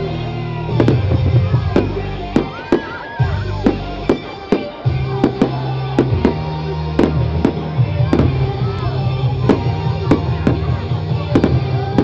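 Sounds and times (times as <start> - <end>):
loud music with bass: 0.0 - 12.0
fireworks bangs: 0.7 - 12.0.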